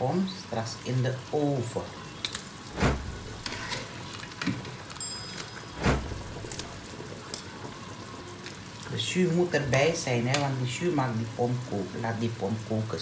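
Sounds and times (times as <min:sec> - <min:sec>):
sizzling hiss: 0:00.0 - 0:04.8, 0:05.6 - 0:13.0.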